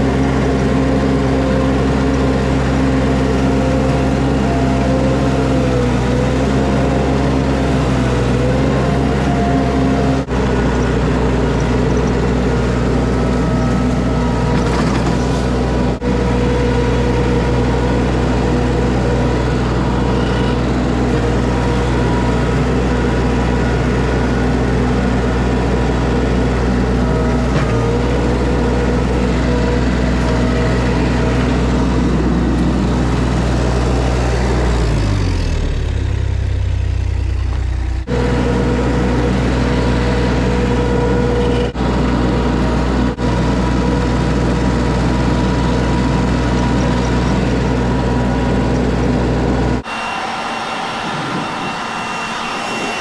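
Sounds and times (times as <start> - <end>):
skid steer engine running: 0.0 - 53.0.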